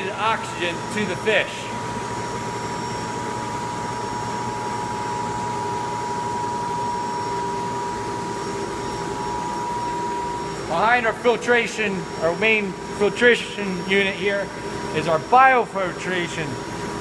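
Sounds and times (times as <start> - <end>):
water treatment machinery hissing: 0.0 - 17.0.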